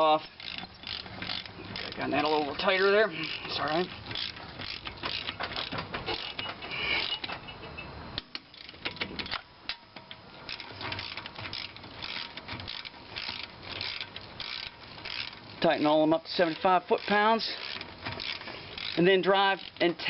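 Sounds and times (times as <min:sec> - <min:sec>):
torque wrench ratchet clicking: 0:00.0 - 0:07.4, 0:08.2 - 0:20.0.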